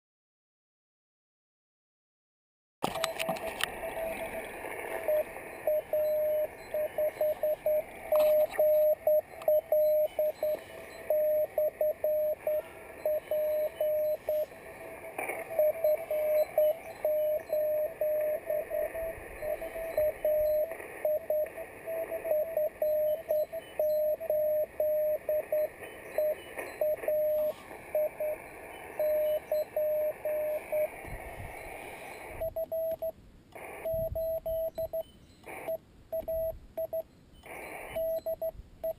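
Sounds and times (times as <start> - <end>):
morse code tone: 2.8 - 30.9, 32.4 - 33.2, 33.8 - 38.9
receiver hiss: 2.8 - 38.9.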